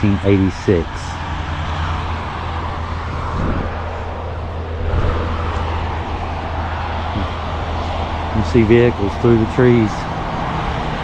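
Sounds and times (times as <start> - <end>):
low engine rumble: 0.0 - 11.0
tyres hissing on highway: 0.0 - 11.0.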